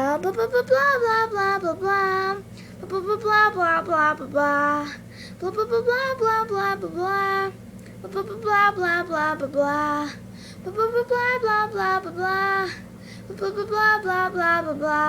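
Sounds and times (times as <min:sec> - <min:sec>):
child singing: 0:00.0 - 0:15.0
faint steady hum: 0:00.0 - 0:15.0.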